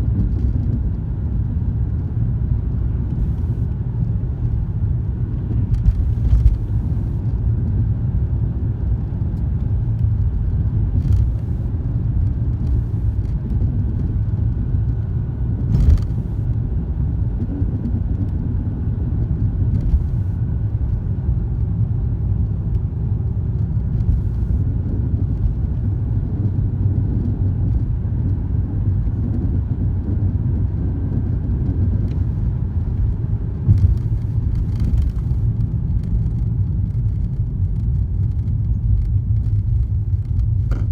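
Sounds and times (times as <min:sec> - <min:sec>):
car road rumble: 0:00.0 - 0:40.9.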